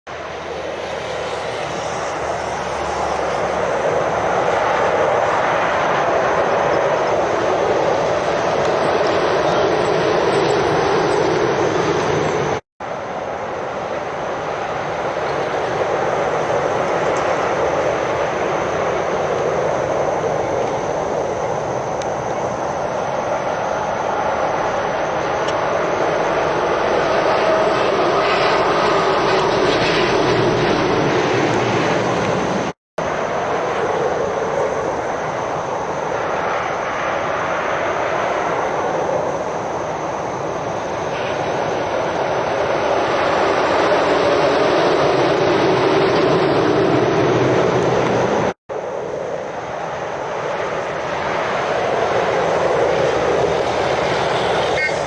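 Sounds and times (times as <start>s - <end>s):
heavy lorries passing: 0.1s - 55.0s.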